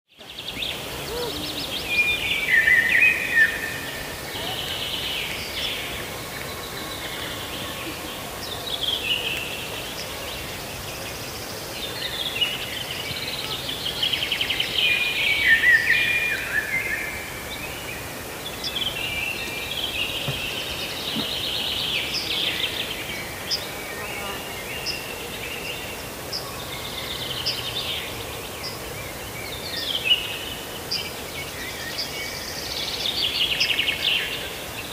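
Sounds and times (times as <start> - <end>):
songbirds singing: 0.1 - 34.9
outdoor background hiss: 0.2 - 34.9.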